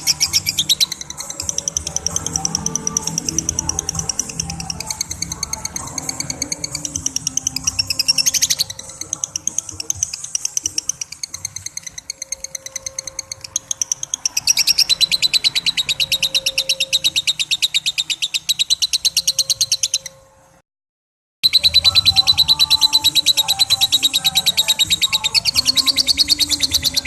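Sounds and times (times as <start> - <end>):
lovebird chattering: 0.0 - 20.2, 21.4 - 27.0.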